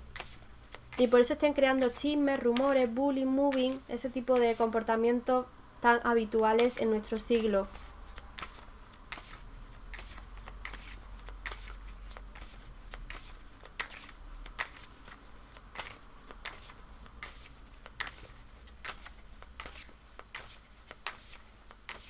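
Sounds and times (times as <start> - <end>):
cards being shuffled: 0.0 - 4.8, 6.3 - 22.0.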